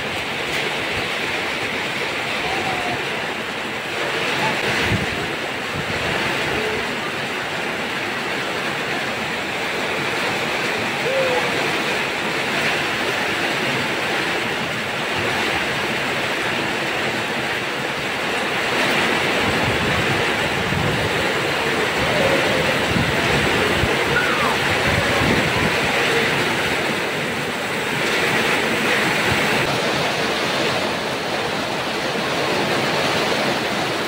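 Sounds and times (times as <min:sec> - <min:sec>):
heavy rain on water and paving: 0:00.0 - 0:34.0.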